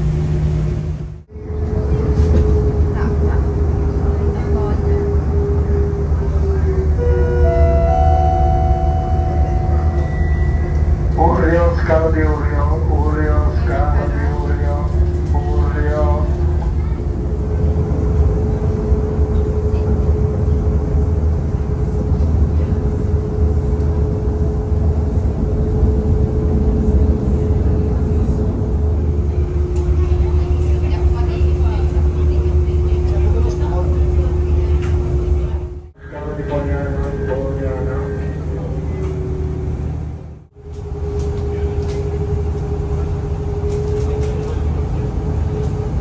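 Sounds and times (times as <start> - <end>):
boat engine running: 0.0 - 46.0
steady hum: 0.0 - 46.0.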